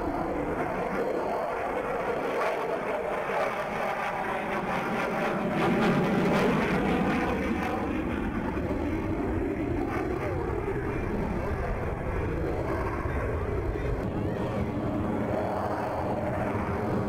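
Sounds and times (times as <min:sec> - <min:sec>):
jet roar: 0:00.0 - 0:17.0.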